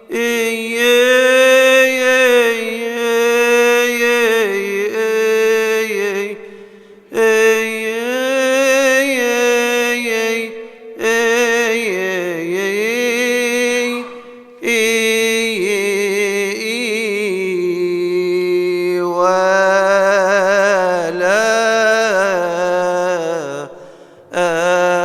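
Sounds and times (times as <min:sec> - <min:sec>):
man chanting a hymn: 0:00.0 - 0:25.0.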